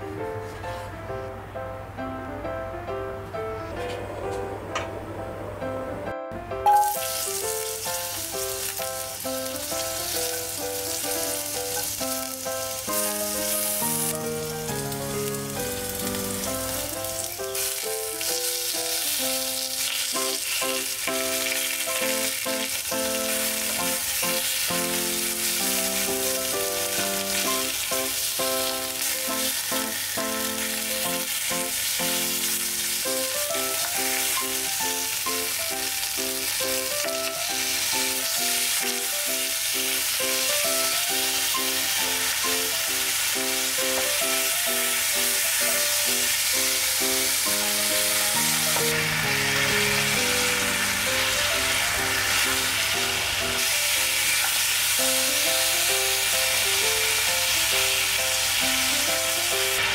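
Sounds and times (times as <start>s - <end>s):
bouncy instrumental music: 0.0s - 59.9s
oil sizzling in a wok: 6.6s - 59.9s.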